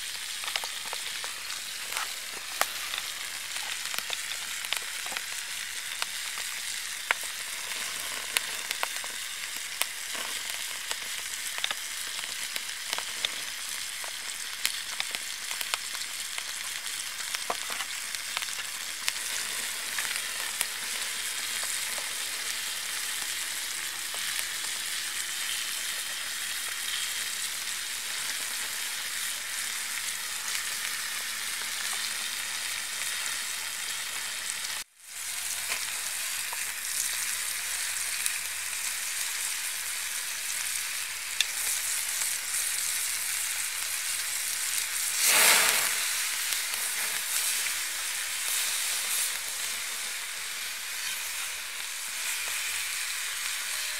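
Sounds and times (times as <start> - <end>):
food sizzling on a hot stone: 0.0 - 53.9.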